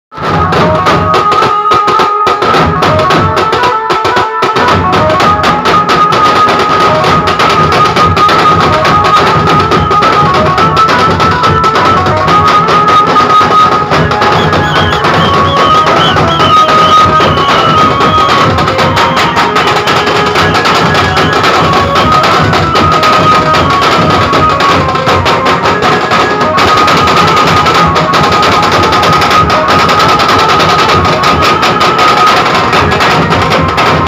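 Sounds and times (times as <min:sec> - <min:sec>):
dhol drums beaten with sticks: 0:00.1 - 0:34.0.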